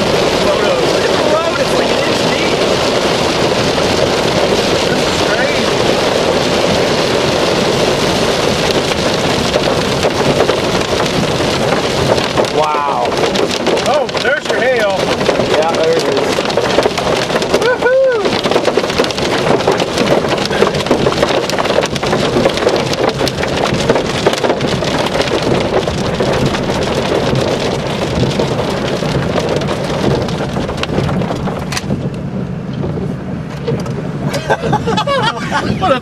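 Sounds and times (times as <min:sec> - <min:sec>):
hail pelting a car: 0:00.0 - 0:36.0.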